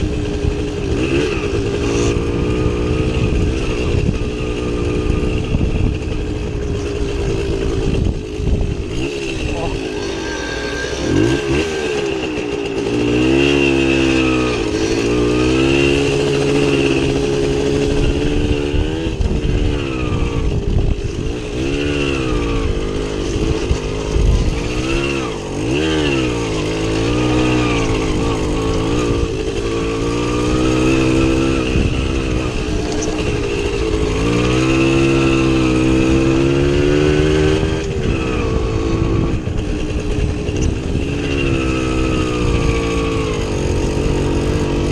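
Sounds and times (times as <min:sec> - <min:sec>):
two-stroke motorcycle revving: 0:00.0 - 0:44.9.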